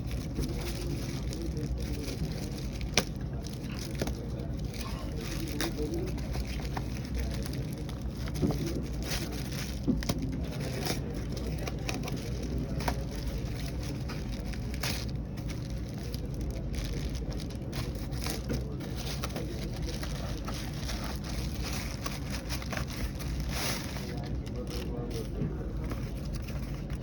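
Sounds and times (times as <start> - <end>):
packaging crinkling: 0.0 - 27.0.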